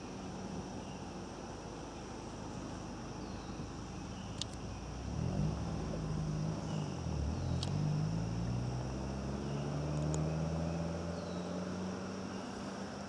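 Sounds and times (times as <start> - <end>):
distant engine drone: 0.0 - 13.0.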